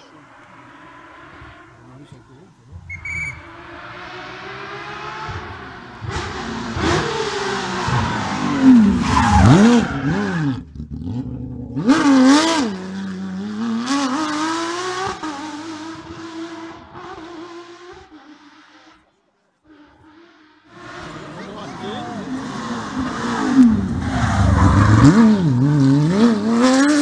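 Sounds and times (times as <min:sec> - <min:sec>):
car engine passing at speed: 0:00.0 - 0:27.0.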